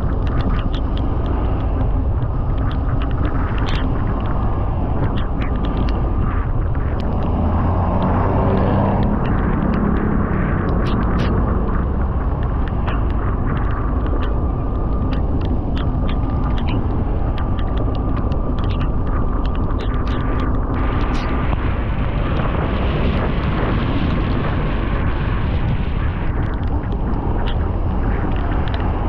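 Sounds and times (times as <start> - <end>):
small clicks: 0.0 - 21.7, 26.0 - 29.0
road noise: 0.0 - 29.0
wind buffeting microphone: 0.0 - 29.0.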